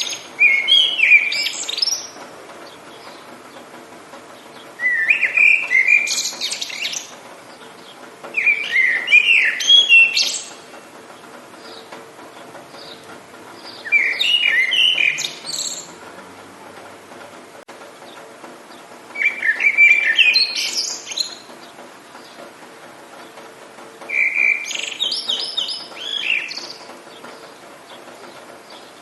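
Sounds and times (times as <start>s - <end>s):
light rain hiss: 0.0s - 29.0s
songbird singing: 0.0s - 29.0s.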